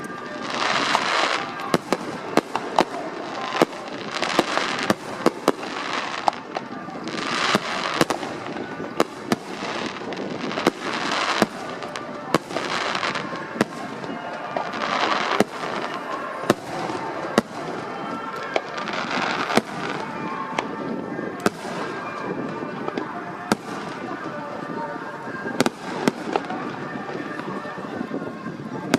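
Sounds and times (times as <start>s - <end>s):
fireworks bangs: 0.0s - 28.9s
fireworks crackle: 0.0s - 28.9s.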